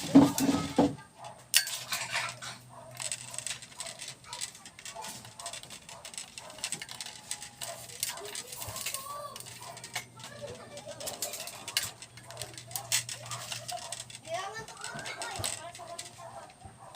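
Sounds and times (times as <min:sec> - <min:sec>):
plastic and metal parts clicking: 0:00.3 - 0:16.9.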